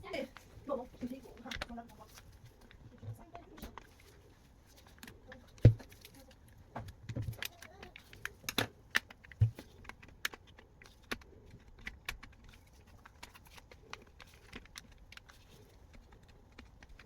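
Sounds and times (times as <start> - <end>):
small hard parts clicking: 0.0 - 17.0.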